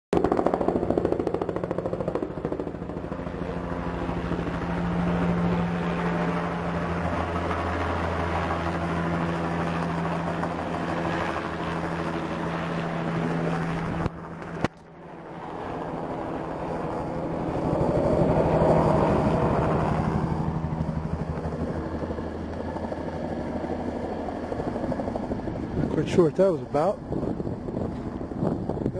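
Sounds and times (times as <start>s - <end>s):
helicopter engine drone: 0.1s - 28.9s
helicopter rotor beat: 0.1s - 28.9s.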